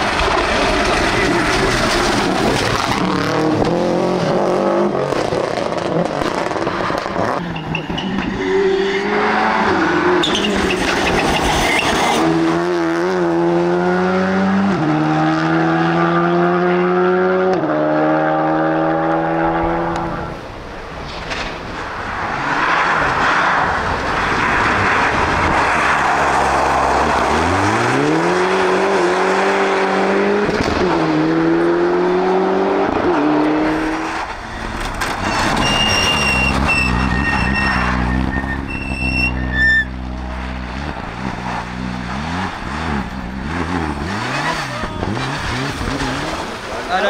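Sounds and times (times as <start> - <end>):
car engine revving: 0.0 - 7.5, 8.2 - 20.4, 22.0 - 47.0
car rushing past: 0.0 - 47.0.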